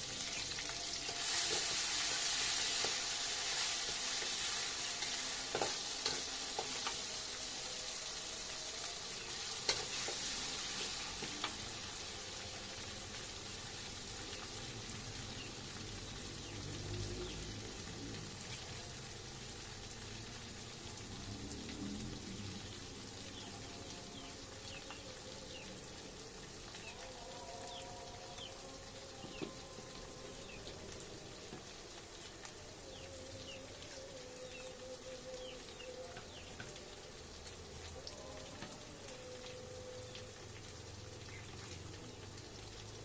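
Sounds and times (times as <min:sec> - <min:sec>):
food sizzling in oil: 0:00.0 - 0:43.0.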